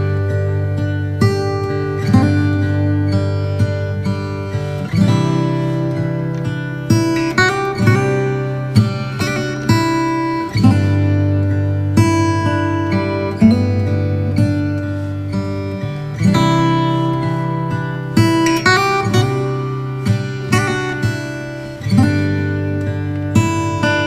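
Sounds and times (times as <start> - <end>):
acoustic guitar plucked chords: 0.0 - 24.0.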